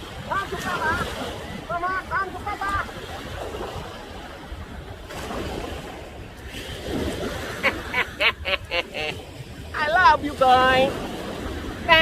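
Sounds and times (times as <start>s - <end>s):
ocean surf washing ashore: 0.0s - 12.0s.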